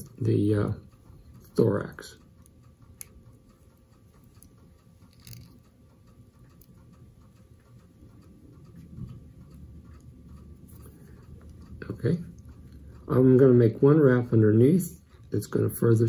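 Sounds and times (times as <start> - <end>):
thread handling ticks and rustles: 0.0 - 13.4
low steady hum: 0.0 - 16.0.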